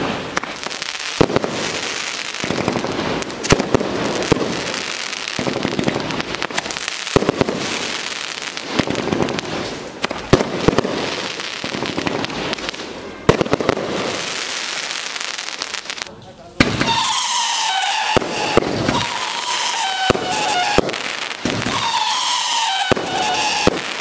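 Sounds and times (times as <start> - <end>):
firework shots: 0.0 - 24.0.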